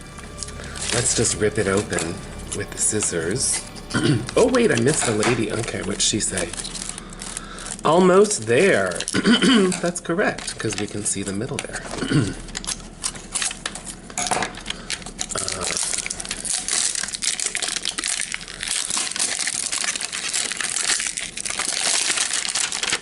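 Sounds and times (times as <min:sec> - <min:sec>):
crinkly wrapper tearing and rustling: 0:00.0 - 0:23.0.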